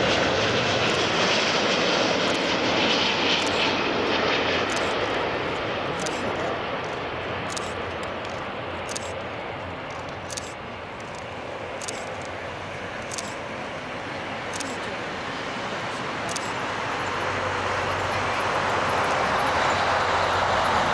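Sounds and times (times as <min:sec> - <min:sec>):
jet airliner engines: 0:00.0 - 0:20.9.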